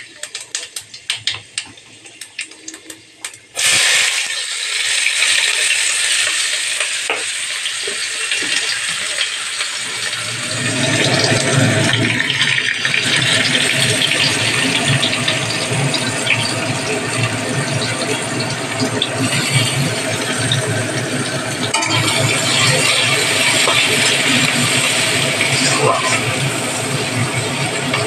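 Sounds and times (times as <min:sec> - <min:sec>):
onions sizzling in hot oil: 0:03.6 - 0:28.0.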